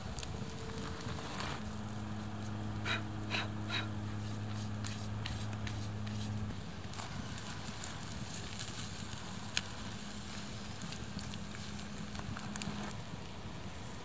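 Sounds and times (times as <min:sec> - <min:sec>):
campfire embers crackling: 0:00.0 - 0:14.0
steak sizzling on coals: 0:00.0 - 0:14.0.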